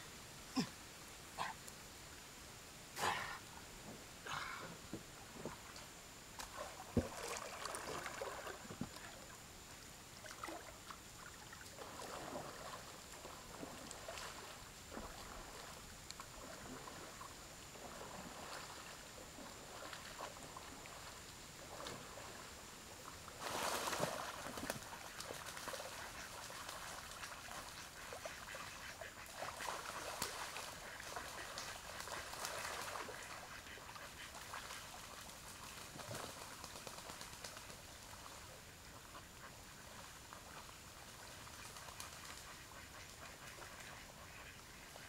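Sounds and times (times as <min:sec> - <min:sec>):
water splashing and lapping: 0:06.4 - 0:09.3, 0:10.2 - 0:45.0.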